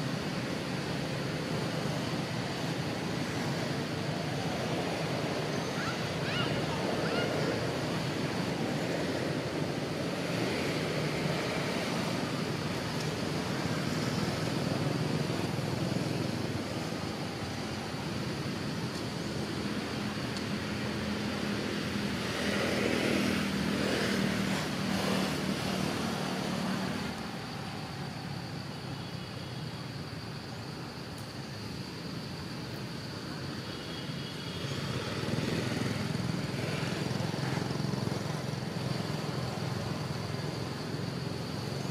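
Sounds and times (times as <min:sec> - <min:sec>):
traffic noise: 0:00.0 - 0:41.9.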